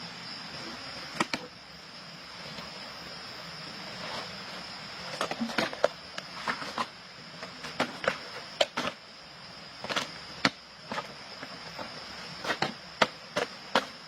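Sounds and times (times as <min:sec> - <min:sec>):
steady high-pitched hiss: 0:00.0 - 0:14.0.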